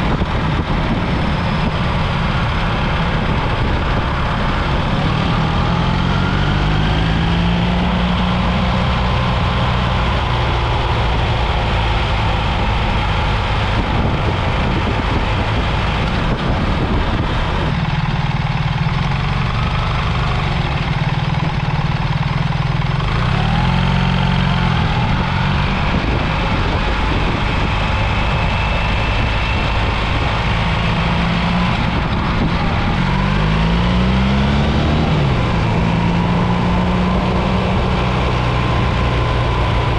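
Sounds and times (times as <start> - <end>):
wind rush over microphone: 0.0 - 18.4, 24.5 - 39.9
motorcycle engine accelerating: 0.0 - 39.9.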